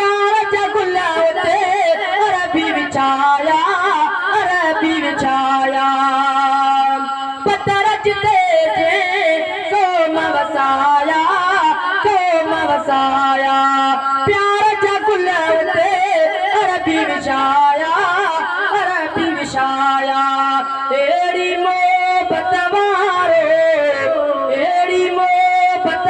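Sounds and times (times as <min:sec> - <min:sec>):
boy singing into a microphone: 0:00.0 - 0:26.0.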